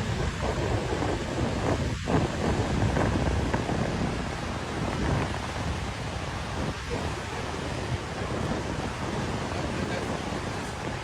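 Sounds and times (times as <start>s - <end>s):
floodwater rushing: 0.0s - 11.0s
wind on microphone: 0.0s - 11.0s.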